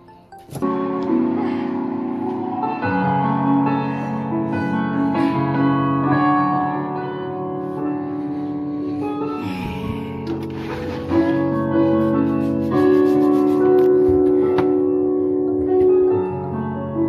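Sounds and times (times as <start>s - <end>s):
piano chords over loudspeakers: 0.0s - 17.0s.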